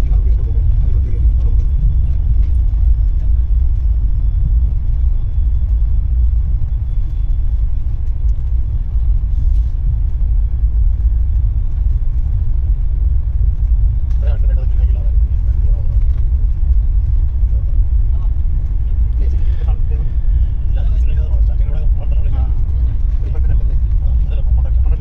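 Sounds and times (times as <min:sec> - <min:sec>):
passenger train rumble: 0:00.0 - 0:25.0.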